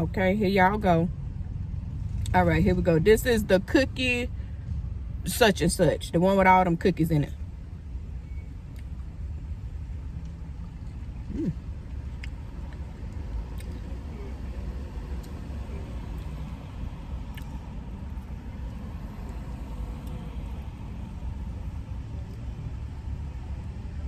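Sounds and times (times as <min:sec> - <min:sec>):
car idling: 0:00.0 - 0:24.0.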